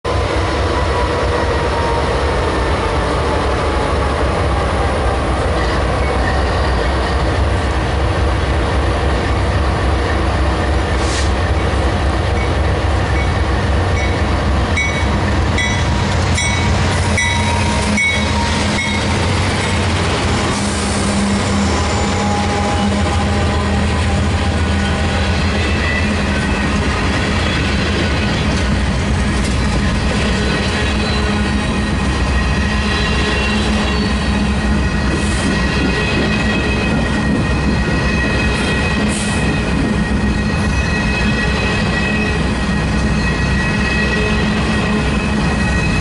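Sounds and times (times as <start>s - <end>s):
freight train passing: 0.0s - 46.0s
passing locomotive engine: 0.0s - 46.0s.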